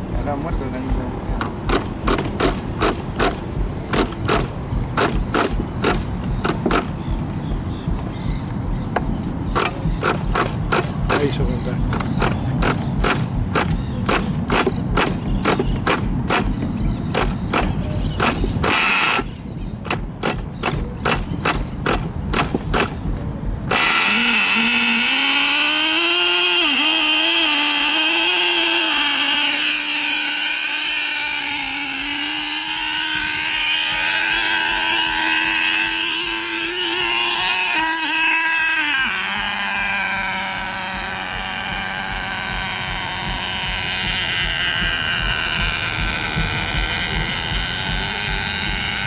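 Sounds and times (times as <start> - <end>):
small engine high-pitched buzz: 0.0 - 49.0
rapid cranking clicks: 1.6 - 7.0, 9.5 - 23.0, 23.7 - 49.0.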